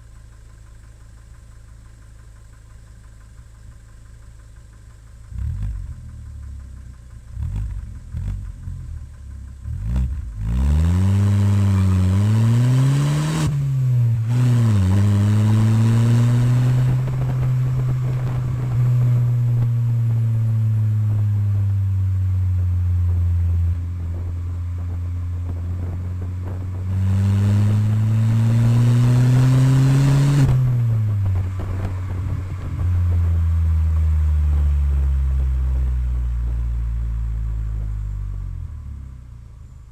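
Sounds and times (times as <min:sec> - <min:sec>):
car engine revving: 0:05.1 - 0:39.5.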